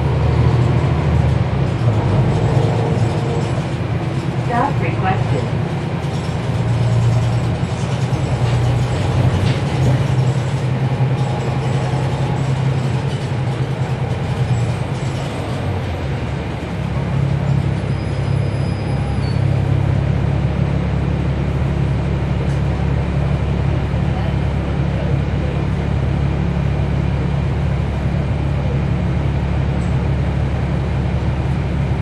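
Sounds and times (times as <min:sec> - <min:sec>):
bus diesel engine droning: 0:00.0 - 0:32.0.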